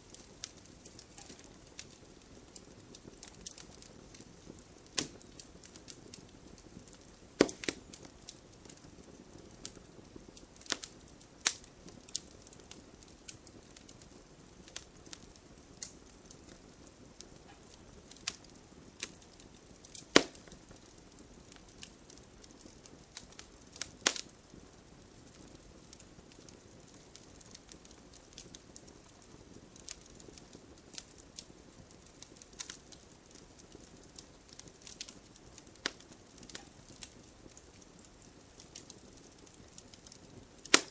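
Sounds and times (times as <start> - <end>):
faint steady hiss: 0.0 - 40.9
wood fire crackling and popping: 0.0 - 40.9.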